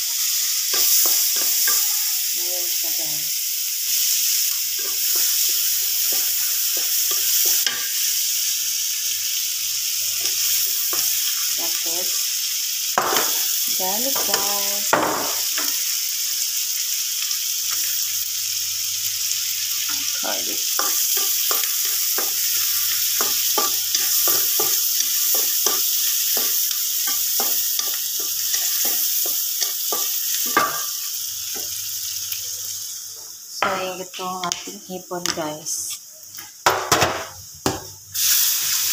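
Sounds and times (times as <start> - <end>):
food sizzling in a wok: 0.0 - 38.9.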